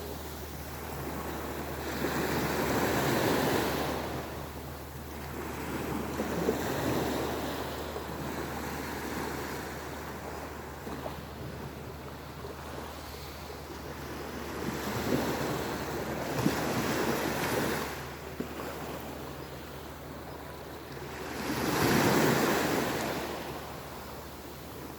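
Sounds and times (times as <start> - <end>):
sea waves breaking ashore: 0.0 - 24.9.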